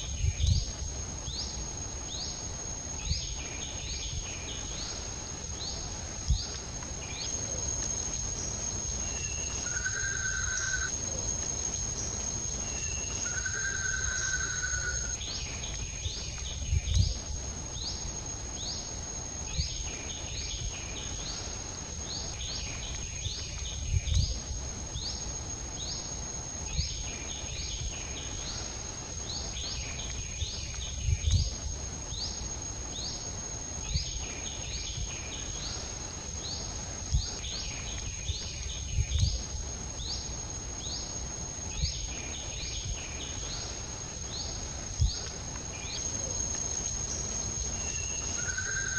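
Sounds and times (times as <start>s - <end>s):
high-pitched insect drone: 0.0s - 48.9s.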